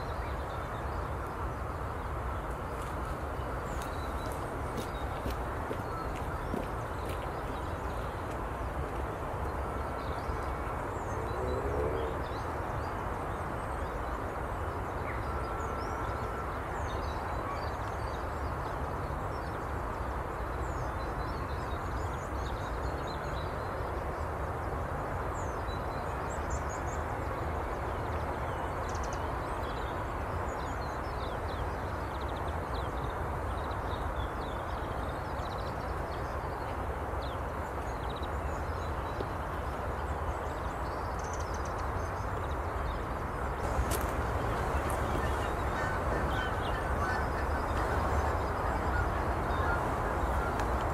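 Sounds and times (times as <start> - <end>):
distant traffic rumble: 0.0 - 20.9, 24.0 - 50.9
songbirds chirping: 0.0 - 50.9.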